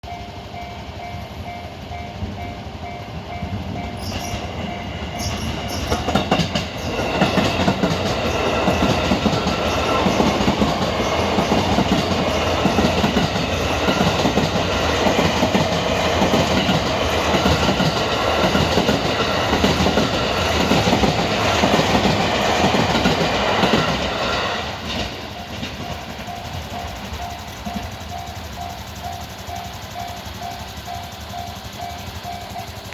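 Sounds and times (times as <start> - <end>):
crossing warning bell ringing: 0.0 - 32.9
train wheels clattering over rails: 1.0 - 32.9.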